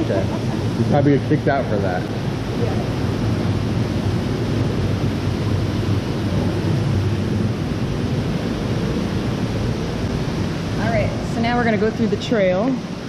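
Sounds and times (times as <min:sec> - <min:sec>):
low rumble: 0:00.0 - 0:13.0
steady rushing noise: 0:00.0 - 0:13.0.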